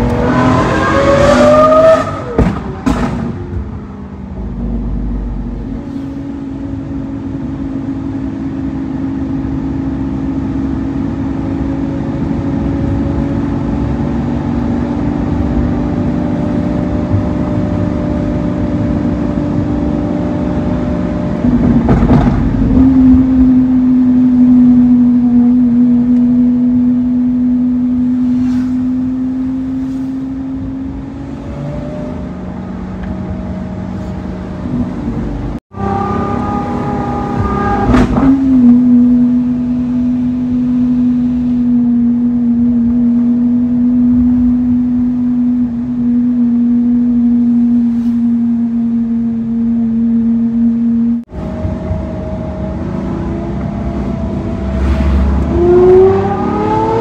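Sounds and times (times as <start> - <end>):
car engine running: 2.2 - 57.0.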